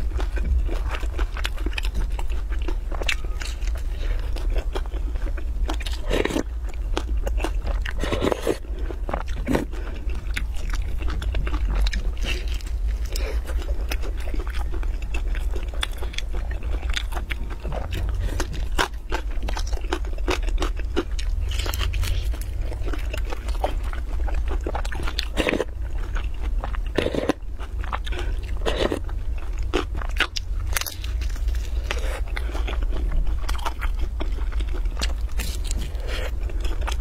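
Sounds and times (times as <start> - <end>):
crunching and chewing fried pancake: 0.0 - 37.0
steady low hum: 0.0 - 37.0.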